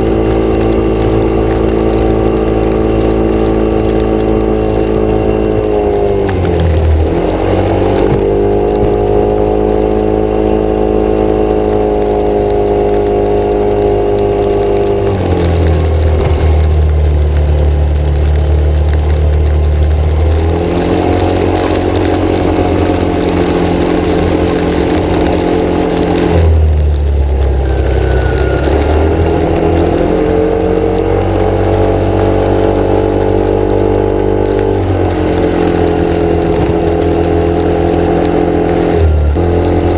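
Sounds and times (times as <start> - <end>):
engine running loudly: 0.0 - 39.9.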